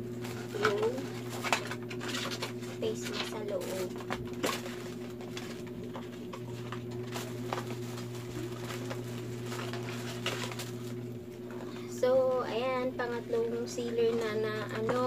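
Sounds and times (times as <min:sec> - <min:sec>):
steady low hum: 0:00.0 - 0:15.0
card and paper rustling: 0:00.2 - 0:15.0.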